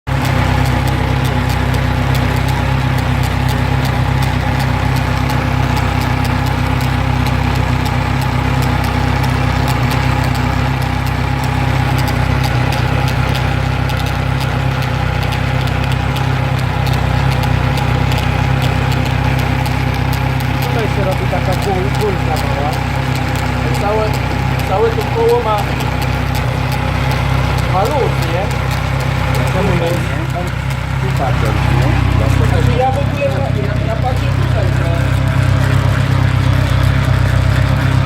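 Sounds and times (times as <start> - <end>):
motorcycle engine running: 0.0 - 38.0
chain ticking: 0.1 - 38.0.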